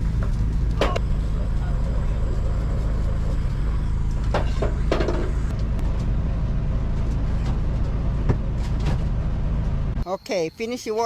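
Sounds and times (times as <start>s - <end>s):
portable generator humming: 0.0s - 10.0s.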